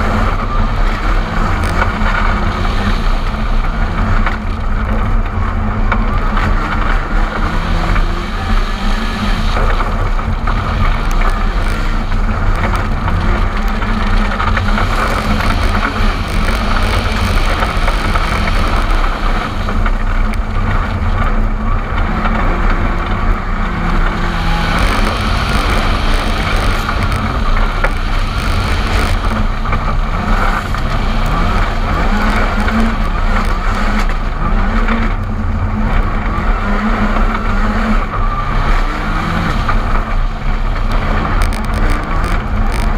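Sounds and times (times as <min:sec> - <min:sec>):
rally car engine at high revs: 0:00.0 - 0:42.9
tyres on gravel road: 0:00.0 - 0:42.9.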